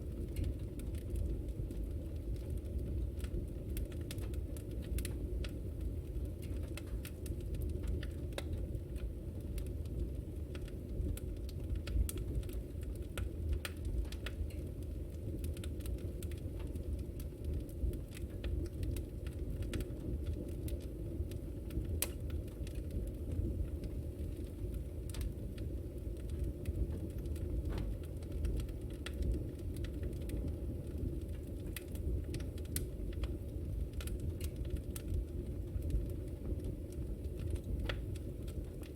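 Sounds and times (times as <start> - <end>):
logs crackling and popping: 0.0 - 38.9
low roar of flame: 0.0 - 38.9.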